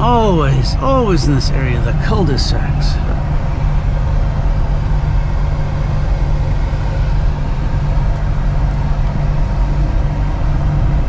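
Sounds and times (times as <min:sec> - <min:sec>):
vehicle engine and road hum: 0:00.0 - 0:11.0.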